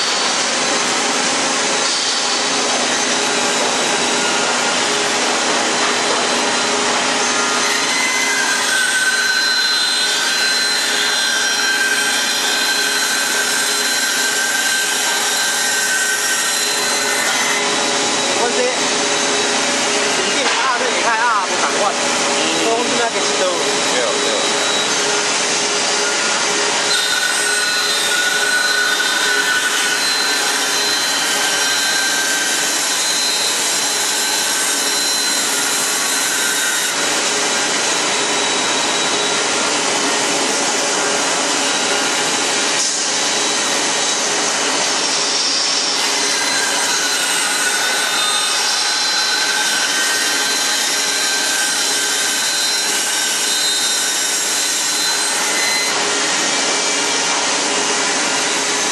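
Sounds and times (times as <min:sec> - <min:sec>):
band saw cutting wood: 0:00.0 - 0:58.9
high saw whine: 0:00.0 - 0:58.9.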